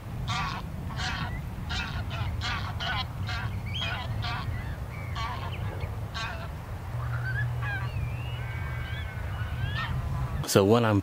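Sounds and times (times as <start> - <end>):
birds honking: 0.3 - 10.5
birds whistling: 1.0 - 10.4.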